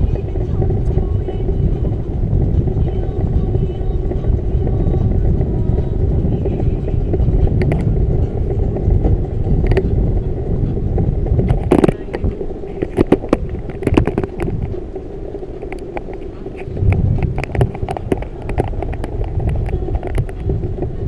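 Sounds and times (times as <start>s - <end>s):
bicycle clicks and rattles: 0.0s - 21.0s
road rumble: 0.0s - 21.0s
wind: 0.0s - 21.0s.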